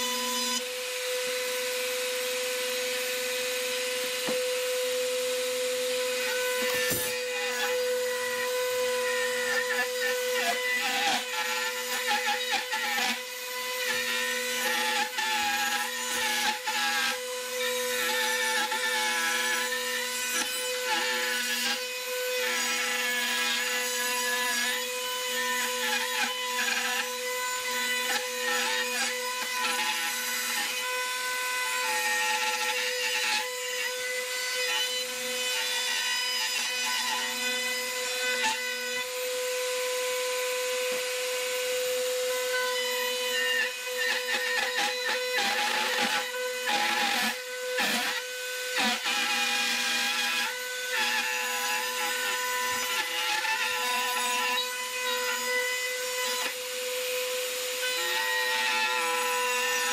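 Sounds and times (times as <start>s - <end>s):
router bit cutting wood: 0.0s - 59.9s
router whining: 0.0s - 59.9s.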